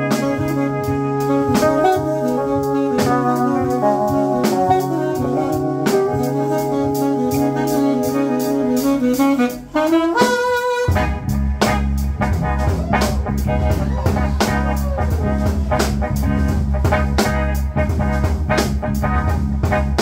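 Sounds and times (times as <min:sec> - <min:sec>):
alto saxophone: 0:00.0 - 0:20.0
bass line: 0:00.0 - 0:20.0
busy drum groove: 0:00.0 - 0:20.0
jazz band playing: 0:00.0 - 0:20.0.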